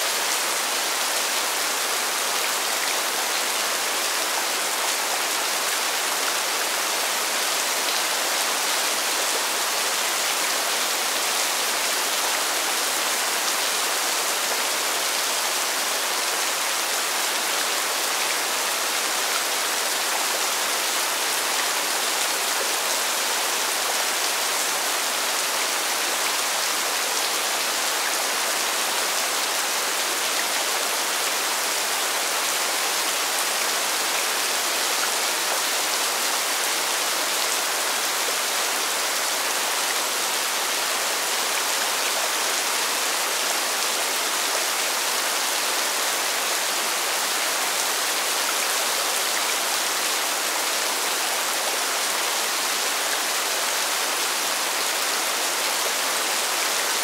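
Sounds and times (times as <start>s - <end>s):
rain falling on pavement: 0.0s - 57.0s.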